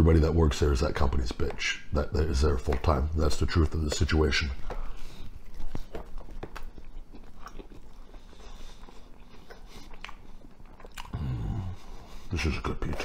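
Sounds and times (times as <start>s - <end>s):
person chewing pizza: 2.3s - 13.0s.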